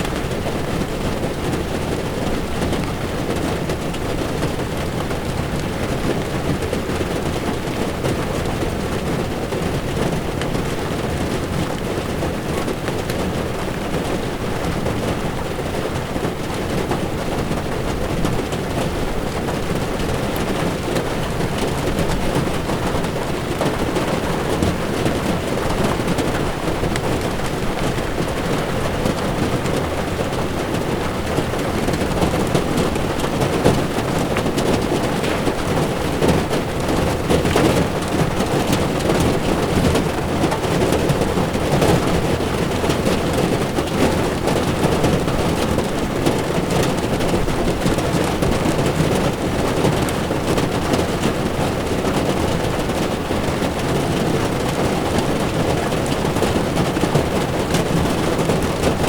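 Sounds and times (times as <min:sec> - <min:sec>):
rain pattering on windshield: 0:00.0 - 0:59.0
tyres rumbling on wet road: 0:00.0 - 0:59.0.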